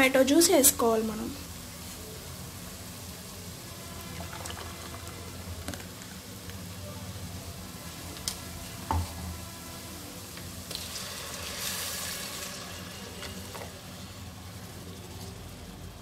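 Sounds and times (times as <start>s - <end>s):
juice sizzling in hot oil: 0.0s - 16.0s.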